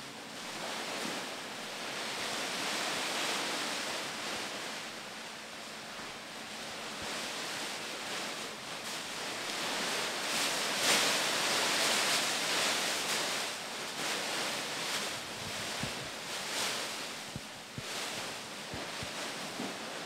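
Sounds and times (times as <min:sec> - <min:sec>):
plastic bags rustling on floor: 0:00.4 - 0:05.2, 0:05.8 - 0:20.0.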